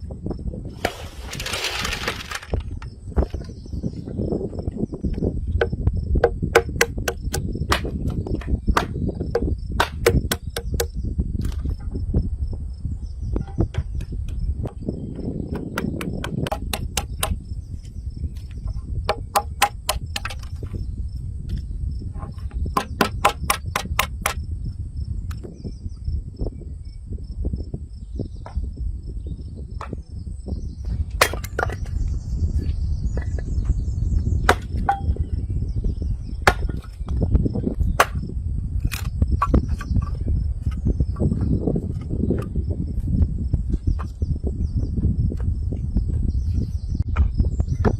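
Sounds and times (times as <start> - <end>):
crickets chirping: 0.0 - 47.8.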